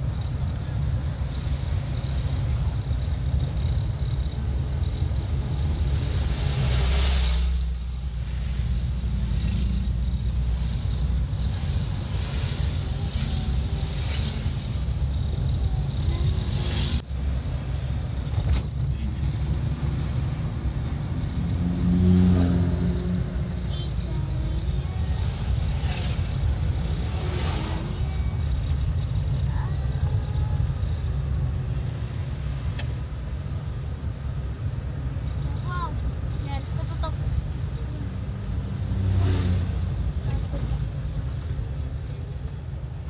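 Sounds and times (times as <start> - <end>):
engine rumble inside vehicle: 0.0 - 43.0.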